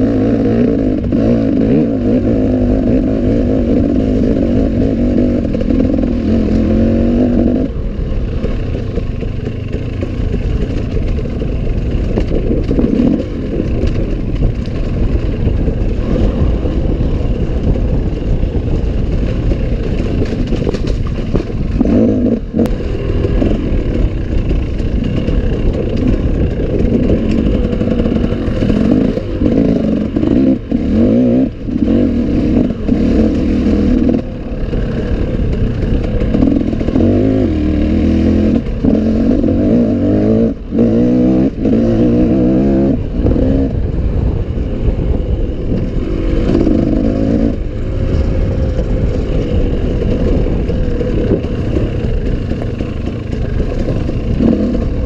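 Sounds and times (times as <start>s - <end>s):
bike rattles and knocks: 0.0s - 55.0s
motorcycle engine revving: 0.0s - 55.0s.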